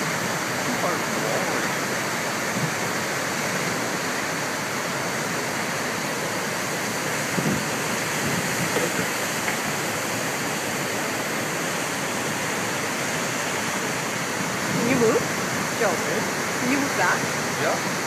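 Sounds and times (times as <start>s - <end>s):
water rushing down concrete channel: 0.0s - 18.0s.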